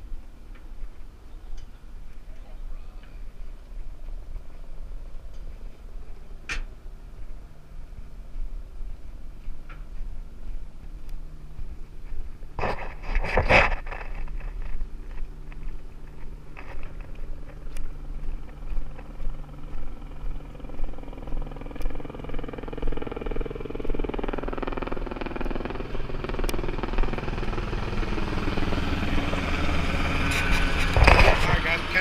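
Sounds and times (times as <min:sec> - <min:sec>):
engine drone: 0:00.0 - 0:32.0
low hum: 0:00.0 - 0:32.0.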